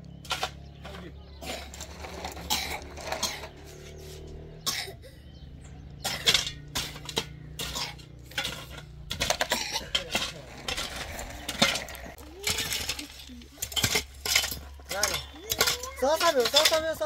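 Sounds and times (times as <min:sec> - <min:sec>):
metal tools scraping concrete blocks: 0:00.1 - 0:05.0, 0:05.6 - 0:17.0.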